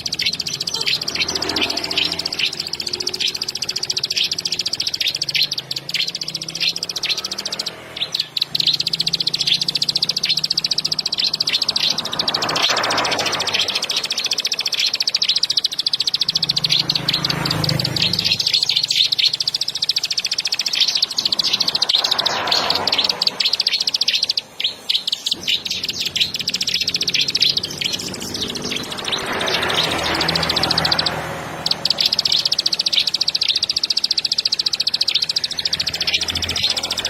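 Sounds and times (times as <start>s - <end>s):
bird buzzing trill: 0.0s - 37.0s.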